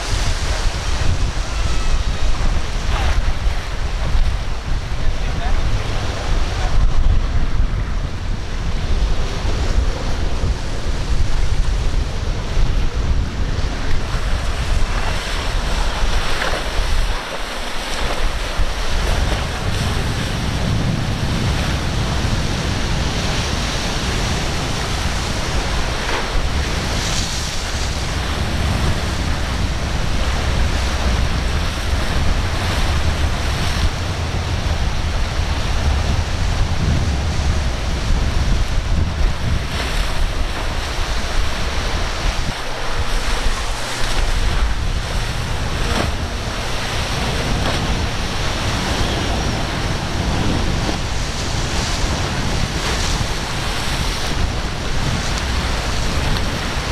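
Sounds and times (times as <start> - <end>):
ocean waves breaking: 0.0 - 56.9
water splashes: 0.0 - 56.9
wind buffeting microphone: 0.0 - 56.9.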